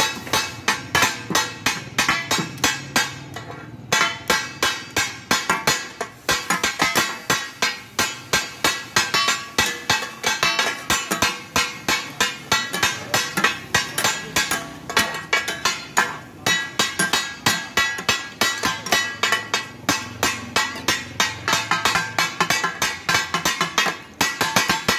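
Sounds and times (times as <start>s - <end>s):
metal blades clanging on griddle: 0.0s - 24.9s.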